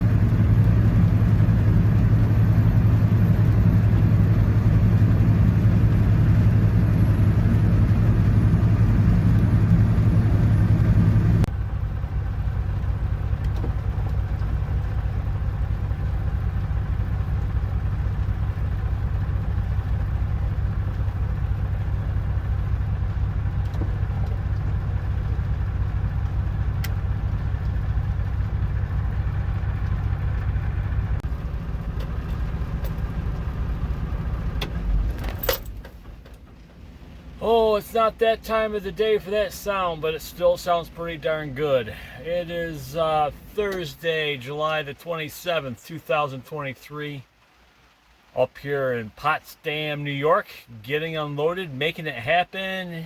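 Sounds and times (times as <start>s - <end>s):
truck engine idling: 0.0s - 46.4s.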